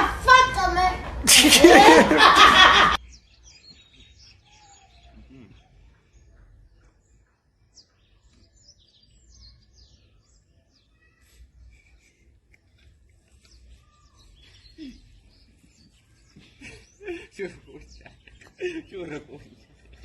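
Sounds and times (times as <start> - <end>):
faint bird chirps: 3.0 - 20.0.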